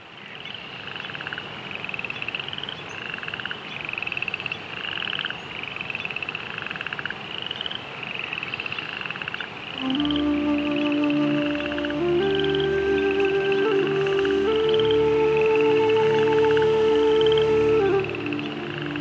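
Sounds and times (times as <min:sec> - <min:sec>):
frogs croaking: 0:00.0 - 0:19.0.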